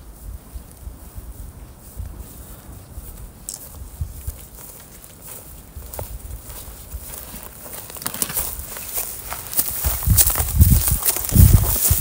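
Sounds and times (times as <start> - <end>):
footsteps on dry grass and leaves: 0.0 - 12.0.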